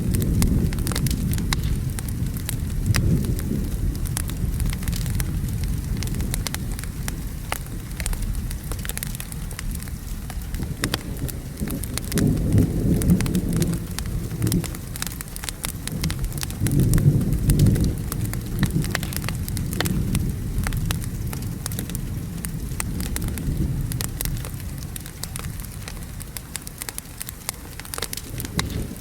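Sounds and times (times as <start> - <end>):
fire crackling and popping: 0.0 - 29.0
steady rain: 0.0 - 29.0
thunder rumble: 0.0 - 29.0.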